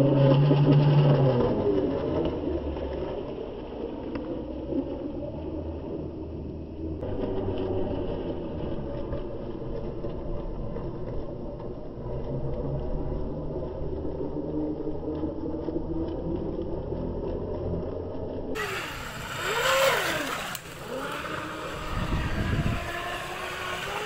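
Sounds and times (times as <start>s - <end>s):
model boat motor humming: 0.0s - 24.0s.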